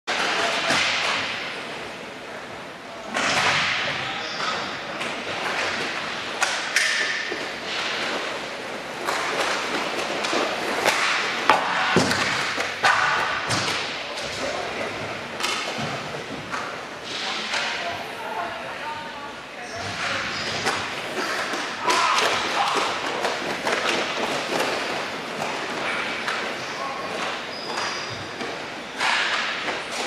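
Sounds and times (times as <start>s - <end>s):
sharp clacks of sticks and puck: 0.1s - 1.8s, 3.1s - 18.0s, 19.8s - 30.0s
skate wheels rolling and scraping: 0.1s - 30.0s.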